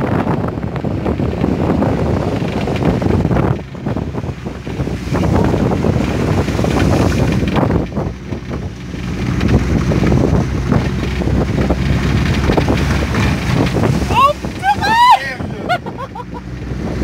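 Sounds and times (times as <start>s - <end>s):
car engine running: 0.0s - 17.0s
water splashing against vehicle: 0.0s - 17.0s
knocks and rattles: 0.8s - 14.6s.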